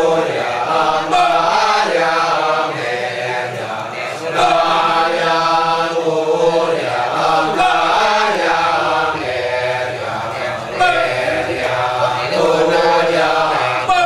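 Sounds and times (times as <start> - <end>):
men chanting in chorus: 0.0 - 14.0.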